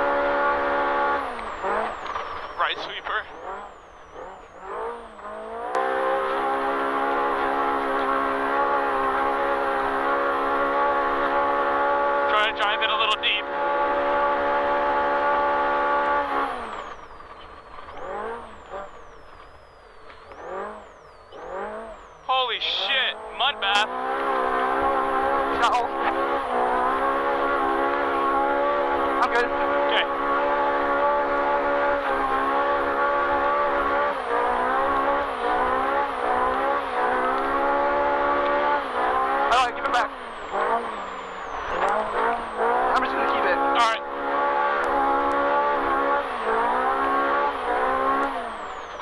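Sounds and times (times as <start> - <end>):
engine revving: 0.0 - 49.0.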